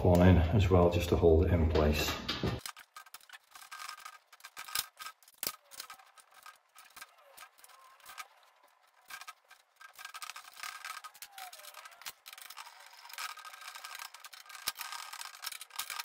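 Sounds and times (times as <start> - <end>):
screw and nut clicking on plastic: 2.6 - 16.0.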